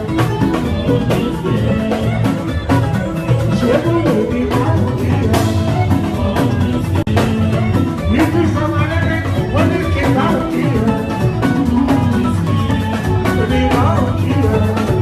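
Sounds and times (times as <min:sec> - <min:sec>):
person singing: 0:00.0 - 0:15.0
upbeat music with strong bass: 0:00.0 - 0:15.0.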